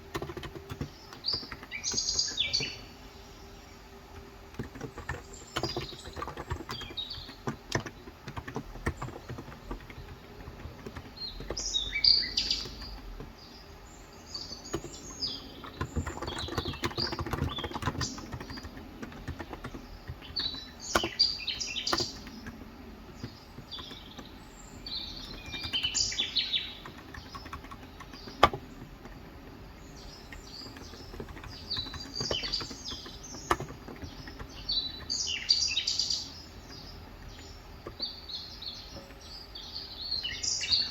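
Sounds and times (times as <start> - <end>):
keyboard typing: 0.0 - 3.0, 3.8 - 39.3
birds chirping: 0.0 - 40.9.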